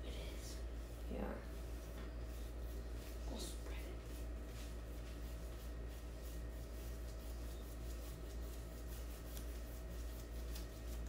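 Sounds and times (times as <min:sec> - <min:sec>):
paintbrushes scrubbing and dabbing: 0:00.0 - 0:11.0.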